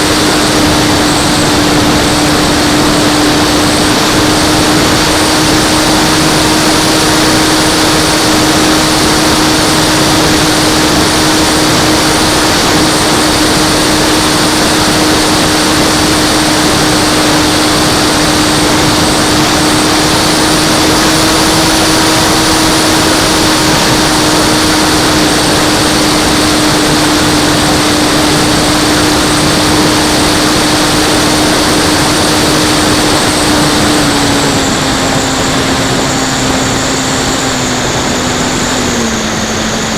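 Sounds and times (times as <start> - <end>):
model plane motor whine: 0.0 - 39.9
rush of air: 0.0 - 39.9.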